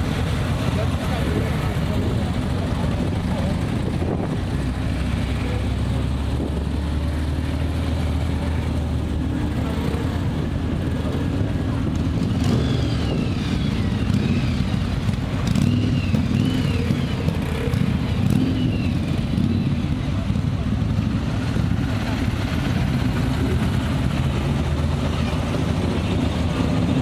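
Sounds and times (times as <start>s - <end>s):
motorcycle engines at low revs: 0.0s - 27.0s.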